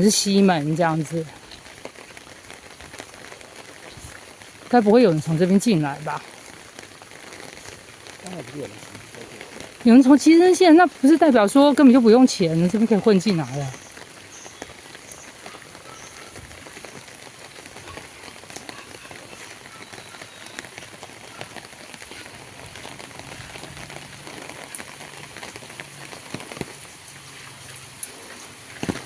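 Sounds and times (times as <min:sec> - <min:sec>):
rain pattering: 0:00.0 - 0:29.0.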